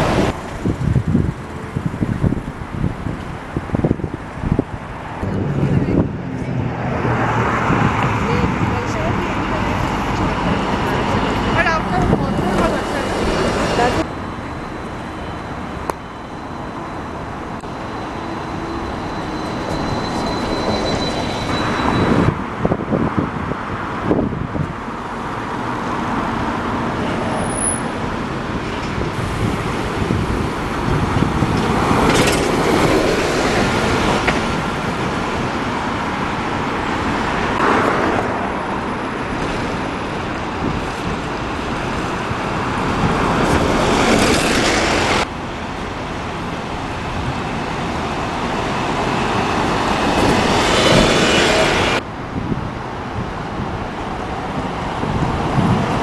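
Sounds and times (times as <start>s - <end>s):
bus passing close: 0.0s - 56.0s
traffic passing: 0.0s - 56.0s.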